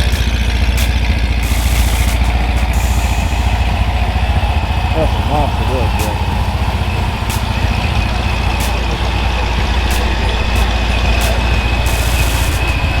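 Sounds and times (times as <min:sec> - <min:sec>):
car engine idling loudly: 0:00.0 - 0:13.0
thin high whine: 0:00.0 - 0:13.0.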